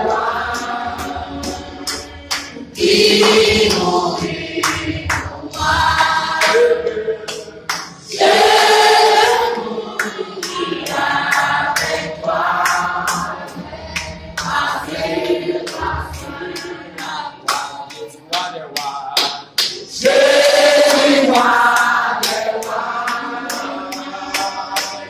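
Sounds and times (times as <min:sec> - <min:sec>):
group singing a hymn: 0:00.0 - 0:25.0.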